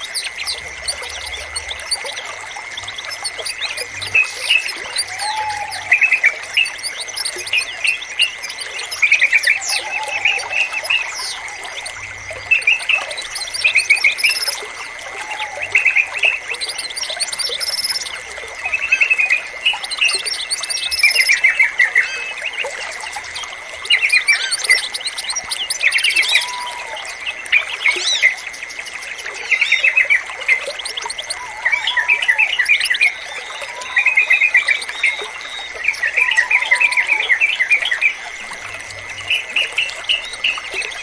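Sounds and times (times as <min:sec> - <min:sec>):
bulbul song: 0:00.0 - 0:41.0.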